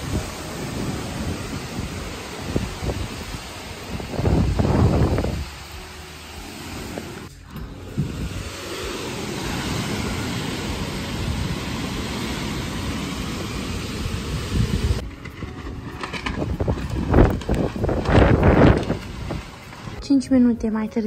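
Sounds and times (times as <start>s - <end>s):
wind buffeting microphone: 0.0s - 6.0s, 6.6s - 20.3s
heavy rain and hail: 0.0s - 7.3s, 8.0s - 20.0s.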